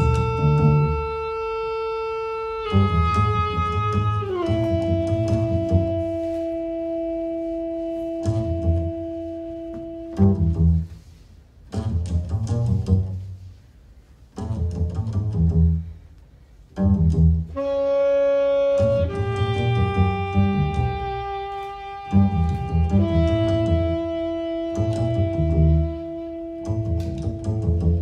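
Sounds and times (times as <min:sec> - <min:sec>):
double bass phrases: 0:00.0 - 0:28.0.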